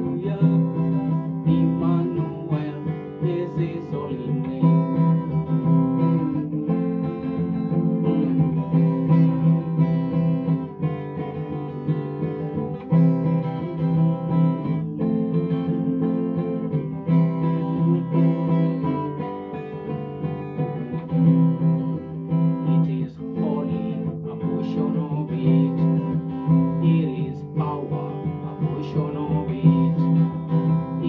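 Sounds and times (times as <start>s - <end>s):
strummed guitar chords: 0.0s - 31.0s.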